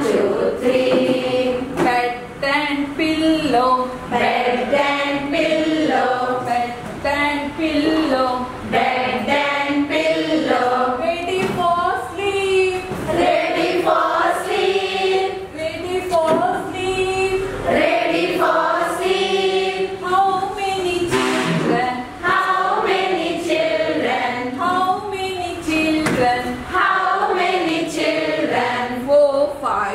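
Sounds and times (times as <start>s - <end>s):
group singing together: 0.0s - 29.9s.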